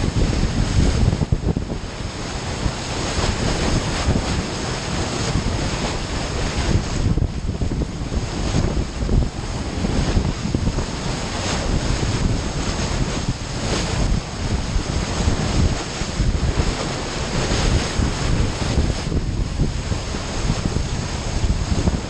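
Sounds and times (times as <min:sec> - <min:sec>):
sea waves washing: 0:00.0 - 0:22.0
wind buffeting microphone: 0:00.0 - 0:22.0.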